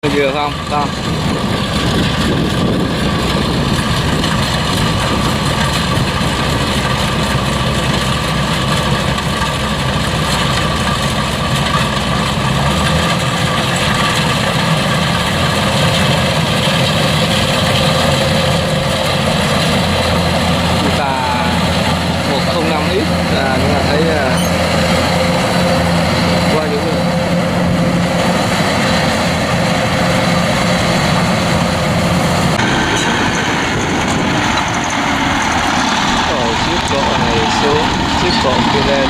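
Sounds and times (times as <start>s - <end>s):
combine harvester engine running: 0.0s - 39.0s.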